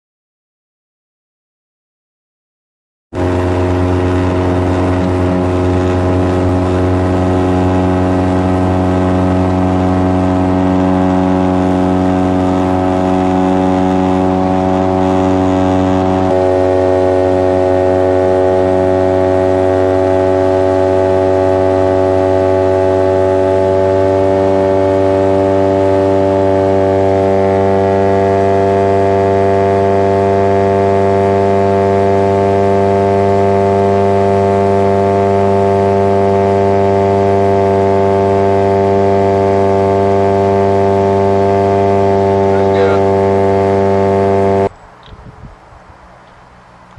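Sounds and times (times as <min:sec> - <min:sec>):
aircraft propeller engine drone: 0:03.2 - 0:46.9.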